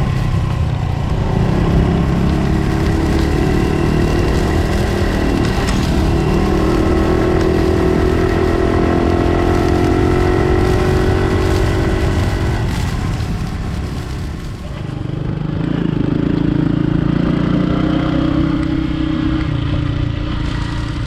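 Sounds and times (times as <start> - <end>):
small motorcycle engine running: 0.0 - 18.8
road and wind rumble: 0.0 - 21.0.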